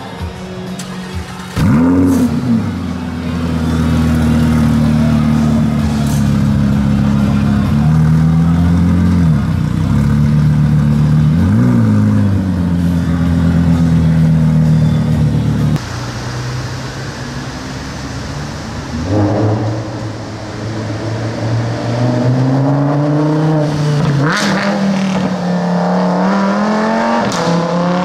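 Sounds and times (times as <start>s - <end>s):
sports car engine starting and idling: 0.7s - 28.0s.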